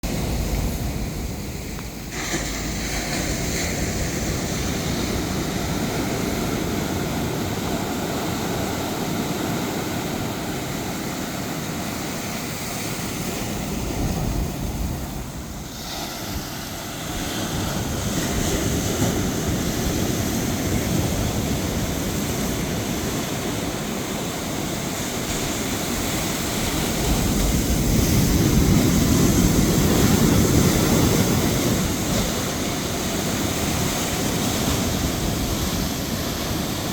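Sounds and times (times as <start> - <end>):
rough sea surf: 0.0 - 36.9
wind: 0.0 - 36.9.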